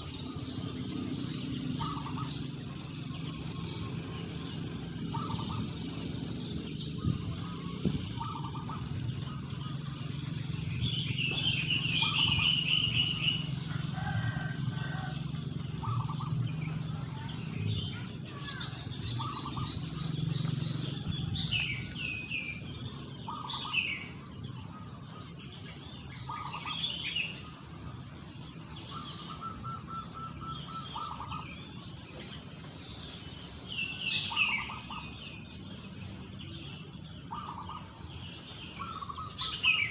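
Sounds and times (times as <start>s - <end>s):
bird trill: 0.0s - 28.0s, 28.8s - 39.9s
birds chirping: 0.0s - 39.9s.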